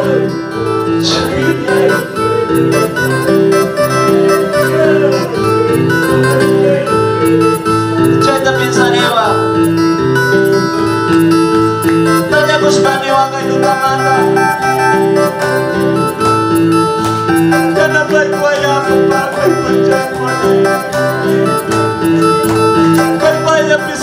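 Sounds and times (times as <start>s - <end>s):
electronic keyboard melody: 0.0s - 24.0s
repeating bass line: 0.0s - 24.0s.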